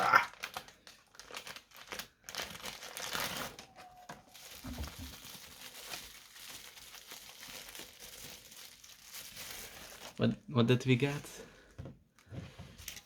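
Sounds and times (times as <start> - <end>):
plastic packaging crinkling: 0.0 - 11.3.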